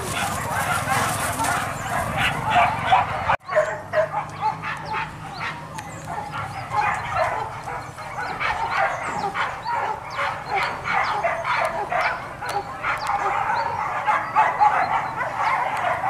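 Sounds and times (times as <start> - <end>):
dogs barking and yelping: 0.0 - 16.0.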